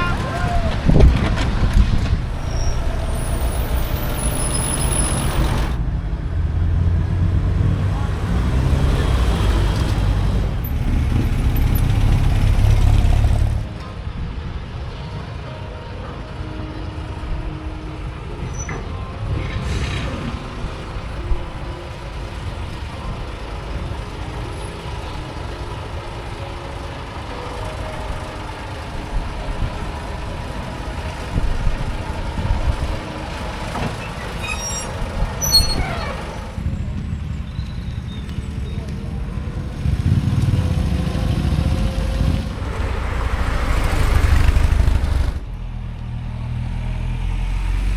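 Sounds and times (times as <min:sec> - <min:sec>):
vehicle engine rumbling: 0:00.0 - 0:47.9.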